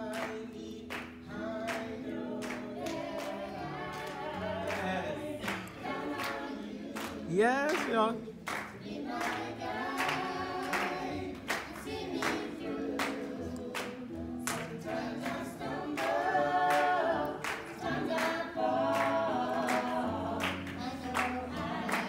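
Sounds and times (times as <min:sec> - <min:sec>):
voices singing gospel in harmony: 0:00.0 - 0:22.0.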